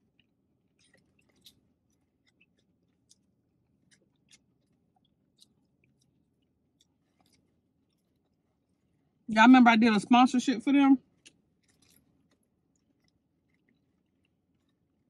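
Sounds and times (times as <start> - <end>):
chewing mouth clicks: 0.1 - 8.4, 11.1 - 15.0.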